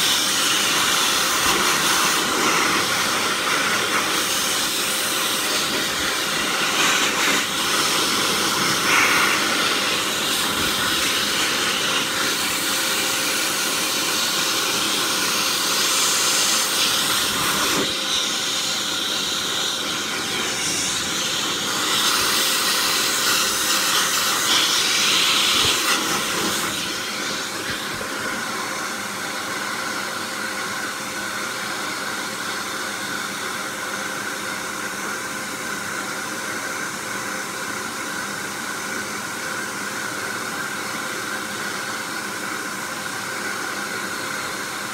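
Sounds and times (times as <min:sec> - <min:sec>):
dog dryer blowing air: 0:00.0 - 0:44.9.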